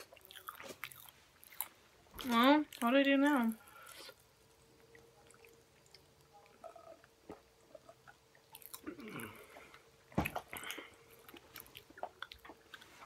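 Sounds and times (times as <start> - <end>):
chewing and mouth sounds: 0.0 - 2.9, 3.5 - 13.0.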